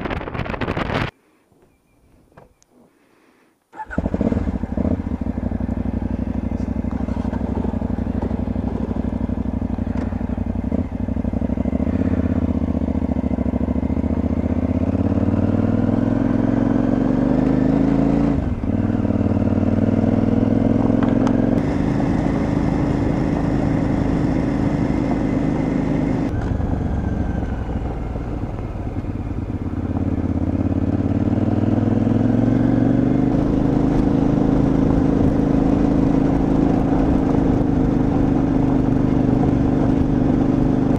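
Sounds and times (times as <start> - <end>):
motorcycle engine revving: 3.8 - 40.9.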